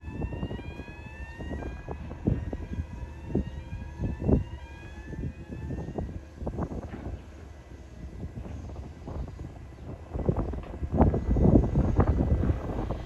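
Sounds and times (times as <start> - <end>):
faint rising mechanical whine: 0.0 - 13.0
wind buffeting microphone: 0.0 - 13.0.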